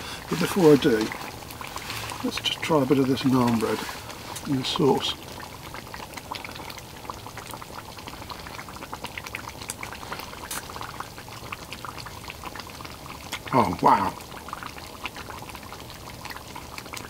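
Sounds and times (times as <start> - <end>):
sauce bubbling in a pot: 0.0 - 17.0.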